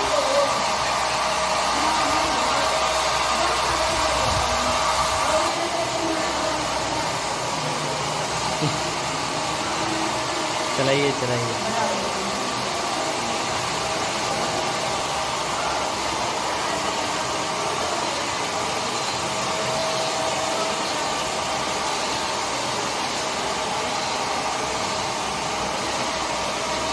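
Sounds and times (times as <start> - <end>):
spinning wheel motor whirring: 0.0 - 26.9.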